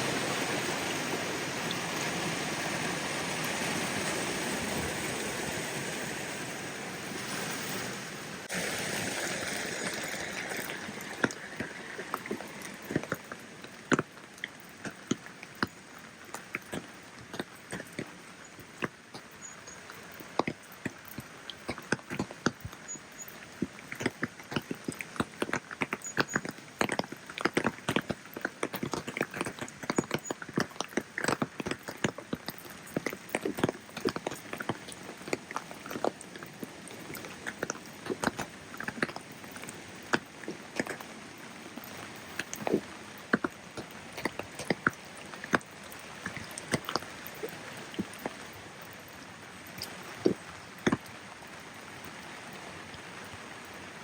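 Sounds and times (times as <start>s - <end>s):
steady rain hiss: 0.0s - 25.9s, 31.6s - 54.0s
raindrops tapping: 8.4s - 53.5s.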